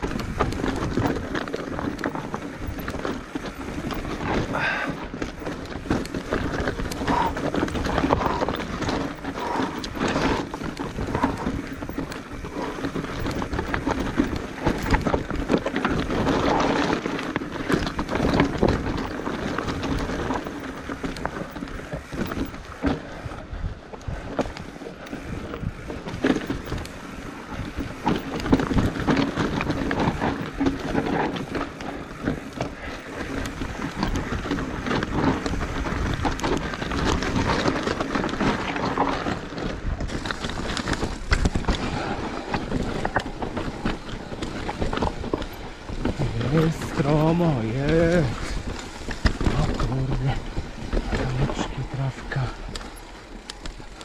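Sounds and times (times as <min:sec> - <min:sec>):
bike knocking and rattling: 0:00.0 - 0:54.0
bike tyres rolling over rocks: 0:00.0 - 0:54.0.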